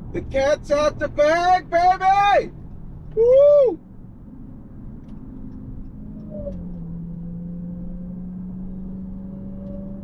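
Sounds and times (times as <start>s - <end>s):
car engine running at low revs: 0.0s - 10.0s.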